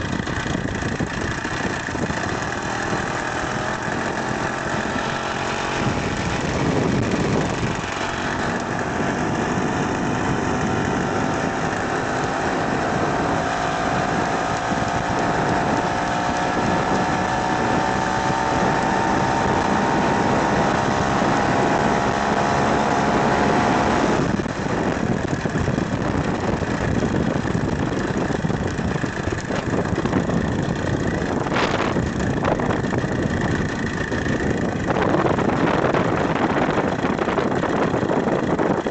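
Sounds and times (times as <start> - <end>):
two-stroke chainsaw engine running: 0.0 - 38.9.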